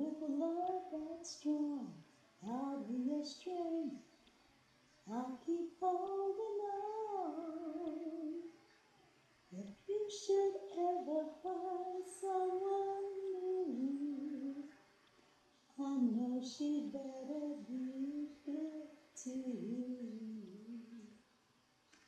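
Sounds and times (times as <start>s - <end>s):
woman singing unaccompanied: 0.0s - 4.4s, 5.0s - 8.6s, 9.5s - 14.9s, 15.7s - 21.2s.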